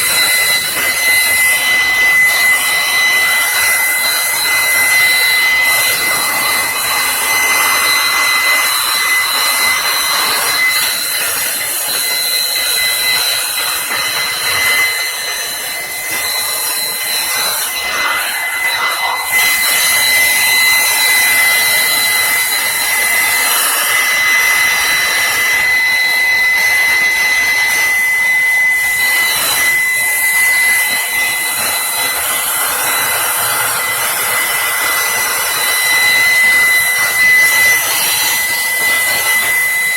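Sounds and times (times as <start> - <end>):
electric blower air rush: 0.0 - 39.9.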